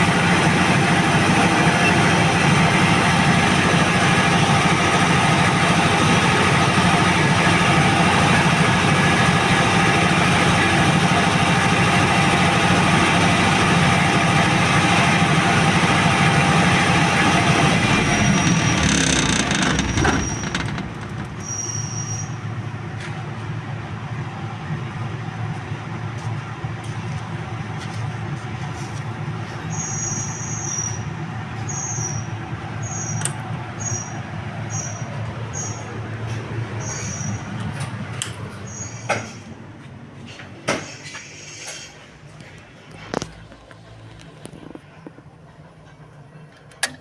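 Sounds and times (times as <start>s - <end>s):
diesel generator running: 0.0s - 47.0s.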